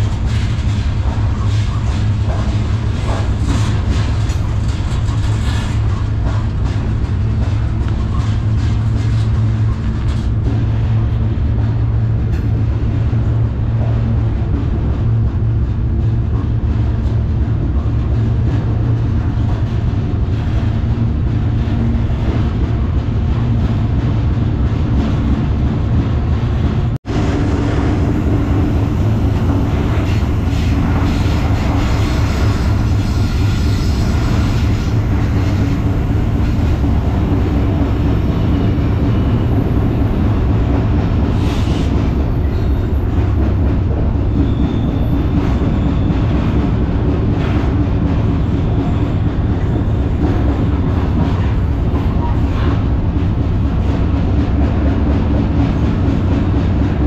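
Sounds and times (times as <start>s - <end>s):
train car rumbling and rattling: 0.0s - 57.0s.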